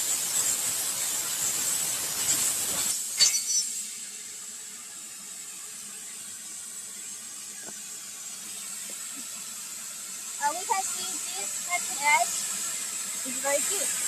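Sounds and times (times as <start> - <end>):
faint steady hiss: 0.0 - 14.0
thin high whine: 0.0 - 14.0.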